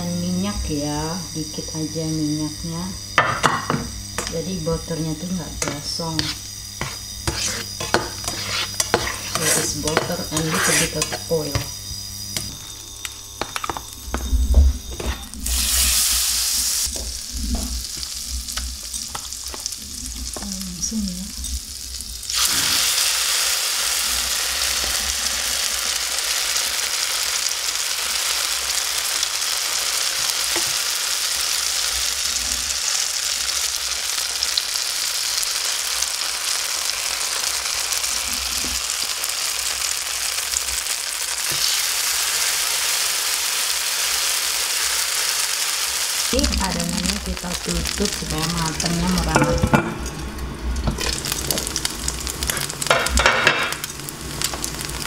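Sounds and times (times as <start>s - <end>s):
batter sizzling in butter: 0.4s - 55.0s.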